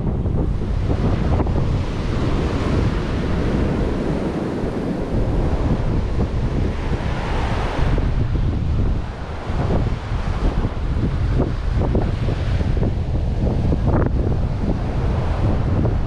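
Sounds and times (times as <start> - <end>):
ocean surf on a beach: 0.0 - 16.0
wind buffeting the microphone: 0.0 - 16.0.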